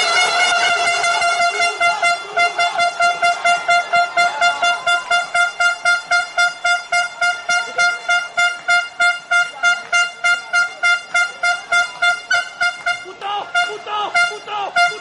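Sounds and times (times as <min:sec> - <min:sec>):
horn tooting rapidly: 0:00.0 - 0:15.0
murmur of stadium crowd: 0:00.0 - 0:15.0.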